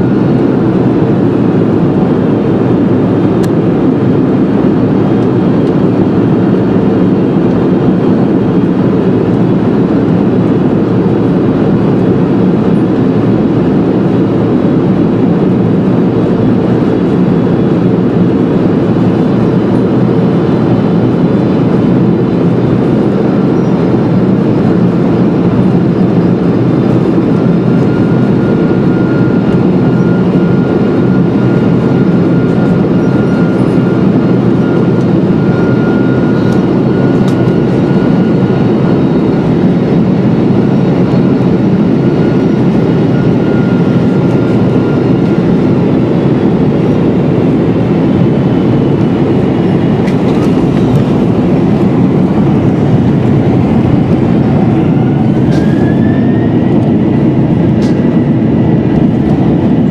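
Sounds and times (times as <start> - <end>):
airplane cabin noise: 0.0 - 59.9.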